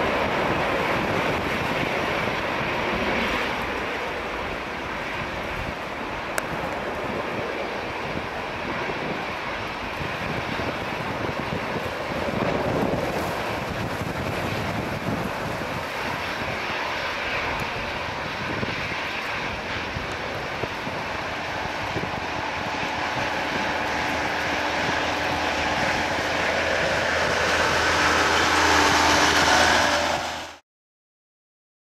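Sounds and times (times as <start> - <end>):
jet engines at takeoff: 0.0 - 30.6.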